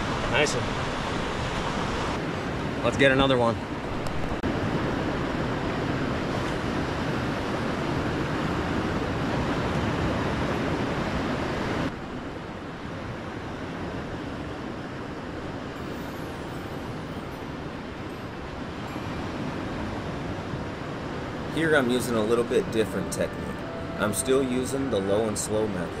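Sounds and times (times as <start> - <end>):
rushing wind: 0.0 - 26.0.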